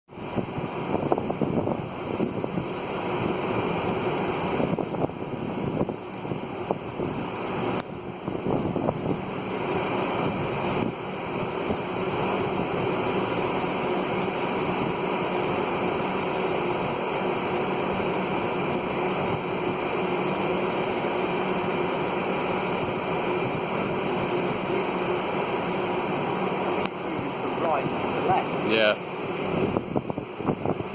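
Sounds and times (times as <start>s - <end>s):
wind rushing over microphone: 0.1s - 30.9s.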